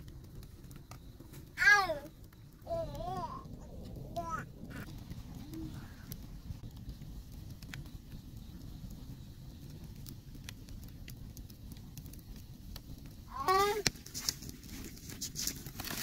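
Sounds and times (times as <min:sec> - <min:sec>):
low steady rumble: 0:00.0 - 0:13.4
wood fire crackling: 0:00.0 - 0:16.0.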